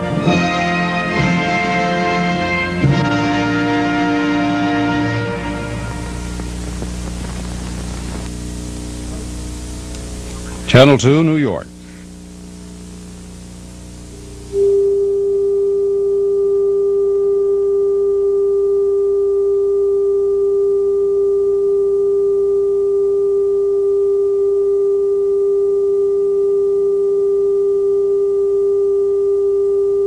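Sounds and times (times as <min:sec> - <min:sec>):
television test-pattern tone: 0:04.3 - 0:30.0.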